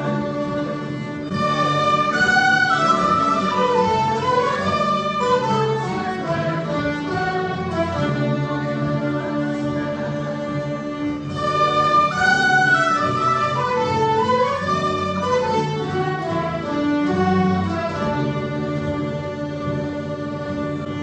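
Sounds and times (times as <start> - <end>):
folk ensemble playing: 0.0 - 21.0.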